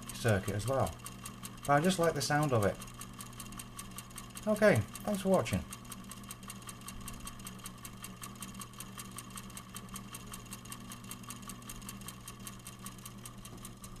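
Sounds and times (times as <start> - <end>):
low steady motor hum: 0.0 - 14.0
motor rotor rattling: 0.0 - 14.0.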